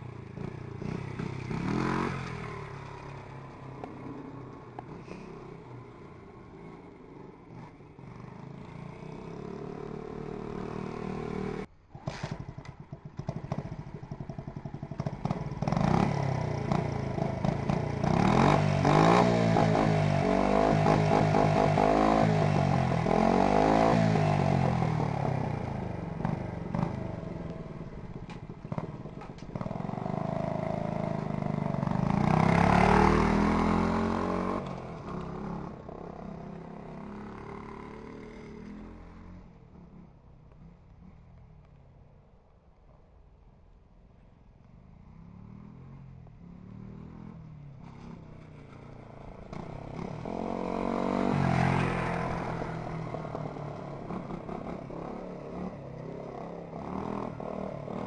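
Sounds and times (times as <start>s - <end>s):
motorcycle engine revving: 0.0s - 41.2s, 45.0s - 58.0s.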